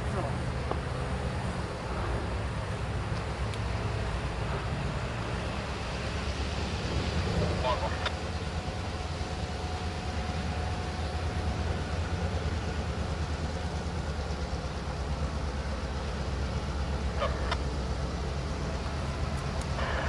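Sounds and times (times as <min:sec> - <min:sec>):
distant locomotive engine rumble: 0:00.0 - 0:20.0.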